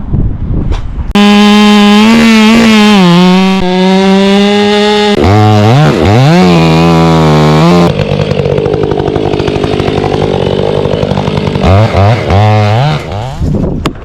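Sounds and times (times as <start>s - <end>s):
chainsaw engine revving: 1.2s - 13.6s.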